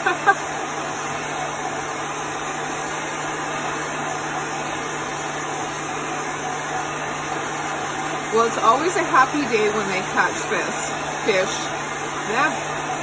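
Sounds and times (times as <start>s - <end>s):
handheld dryer blowing air: 0.0s - 13.0s.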